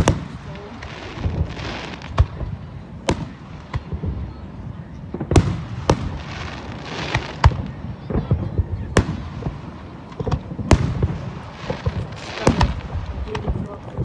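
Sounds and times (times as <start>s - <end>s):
hissing crackle: 0.0s - 14.0s.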